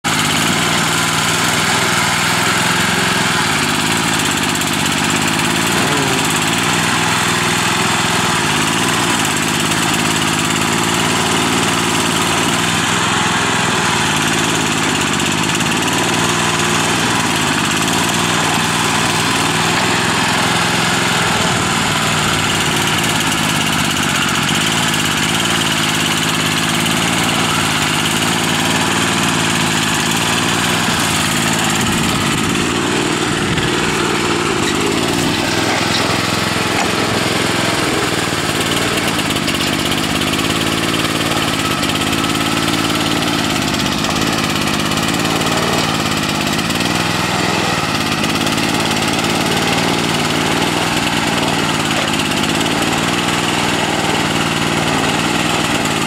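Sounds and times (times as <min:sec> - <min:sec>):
hydraulic boom digging soil: 0:00.0 - 0:56.0
small engine running: 0:00.0 - 0:56.0.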